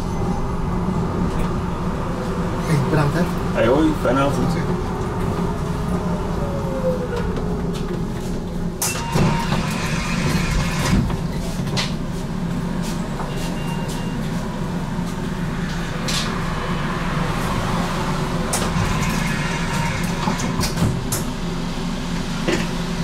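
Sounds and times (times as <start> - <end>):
tram wheels rumbling on rails: 0.0 - 23.0
tram whine: 0.0 - 23.0.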